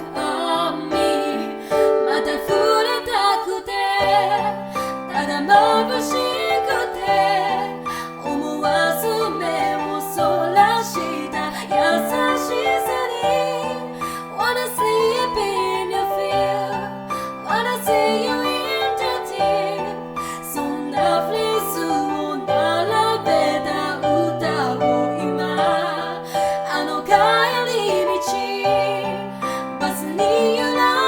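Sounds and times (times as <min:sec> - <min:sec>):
piano accompaniment: 0:00.0 - 0:31.0.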